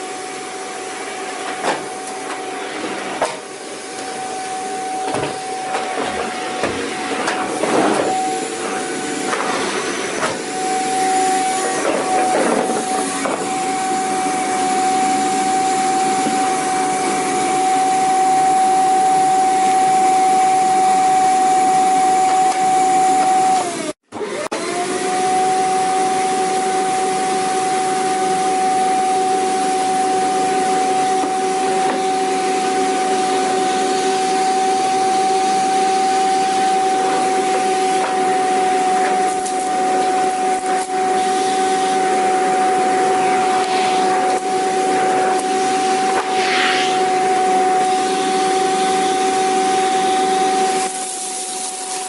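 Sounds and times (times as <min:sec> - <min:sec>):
vacuum cleaner motor whining: 0:00.0 - 0:52.0.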